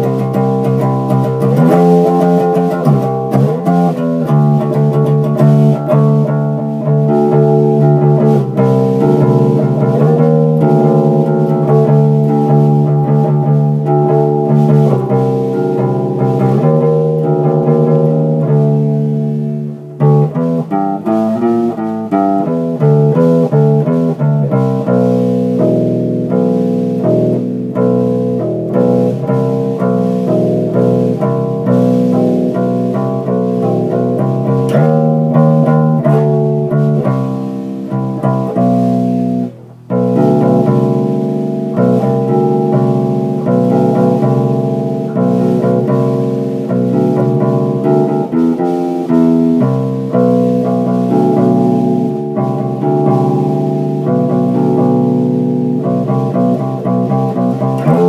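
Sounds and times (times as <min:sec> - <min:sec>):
electric bass guitar: 0:00.0 - 0:58.0.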